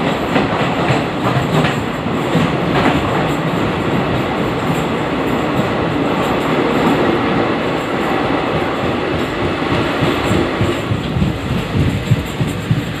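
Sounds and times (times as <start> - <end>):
train wheels rumbling in tunnel: 0.0 - 13.0.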